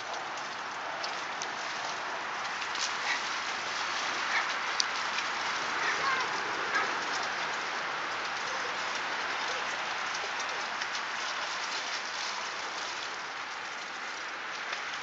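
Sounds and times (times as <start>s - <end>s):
water splashing from swimming: 0.0s - 15.0s.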